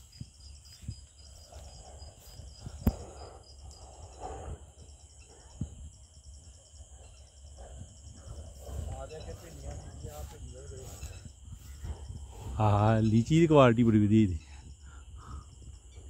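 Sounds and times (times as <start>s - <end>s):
insects chirping trill: 0.0s - 16.0s.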